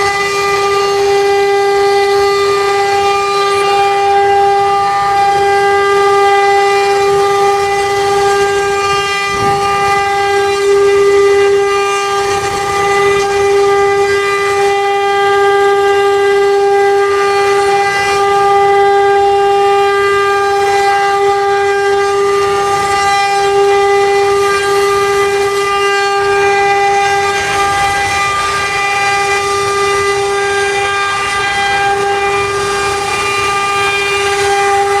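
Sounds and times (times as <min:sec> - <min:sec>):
router spindle high whine: 0:00.0 - 0:35.0.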